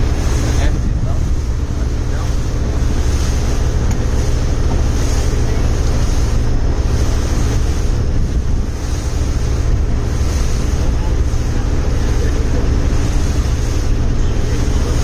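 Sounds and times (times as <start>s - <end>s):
motorboat engine rumbling: 0.0s - 15.0s
wind on microphone: 0.0s - 15.0s.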